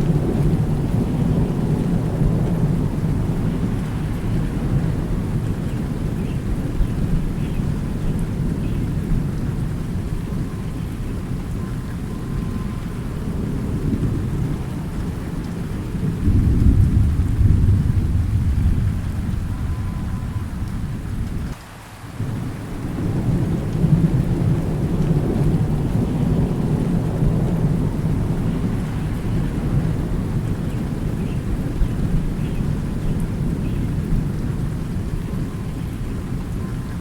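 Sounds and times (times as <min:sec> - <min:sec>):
rolling thunder: 0:00.0 - 0:21.6, 0:22.2 - 0:37.0
steady rain: 0:00.0 - 0:37.0.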